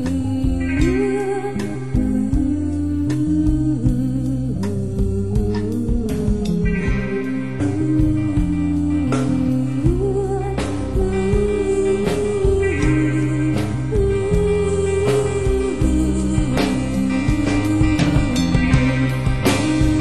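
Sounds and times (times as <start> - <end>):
sustained guitar notes: 0.0 - 4.9, 5.5 - 20.0
band music: 0.0 - 20.0.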